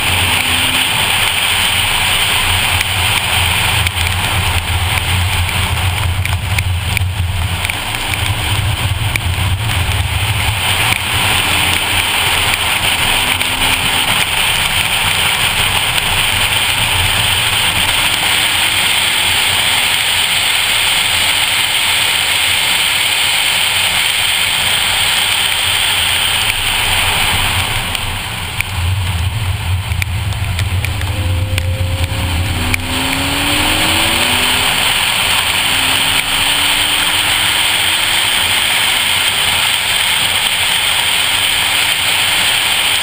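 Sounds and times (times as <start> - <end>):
car engine drone under load: 0.0 - 43.0
hiss of tyre spray and rain: 0.0 - 43.0.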